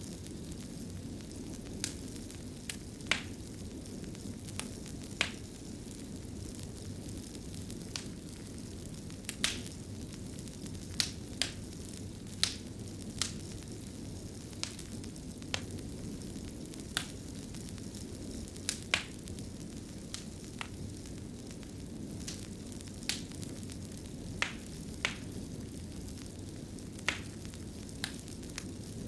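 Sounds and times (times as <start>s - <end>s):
burning logs rumbling: 0.0s - 29.0s
fire pops and snaps: 0.0s - 29.0s
wood fire crackling: 0.0s - 29.0s.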